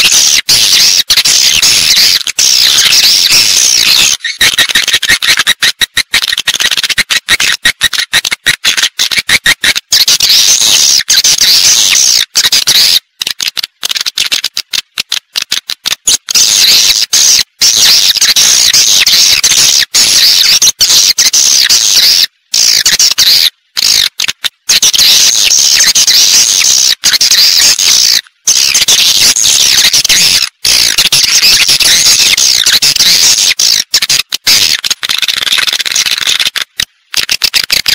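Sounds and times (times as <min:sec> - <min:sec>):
swiftlets chirping and twittering: 0:00.0 - 0:13.0, 0:16.0 - 0:24.1, 0:24.7 - 0:36.4.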